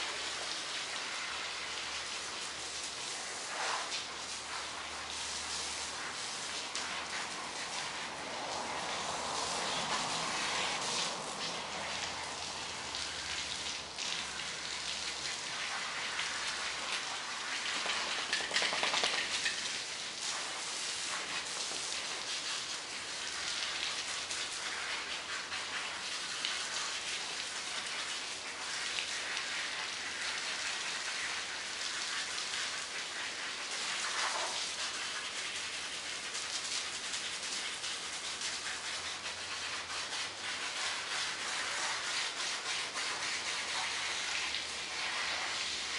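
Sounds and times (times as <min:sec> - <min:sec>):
garden hose spraying water: 0:00.0 - 0:45.9.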